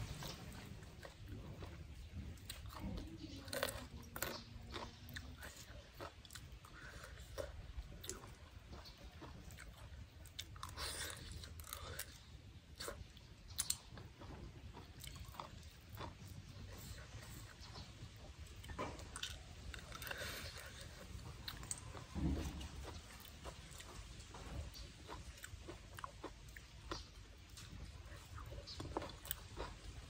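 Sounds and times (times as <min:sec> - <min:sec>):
person chewing and crunching: 0:00.0 - 0:30.0.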